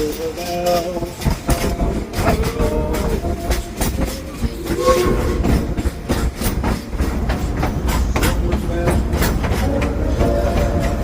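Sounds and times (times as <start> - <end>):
clicking and clattering: 0.0 - 11.0
train wheels rumbling on track: 0.0 - 11.0.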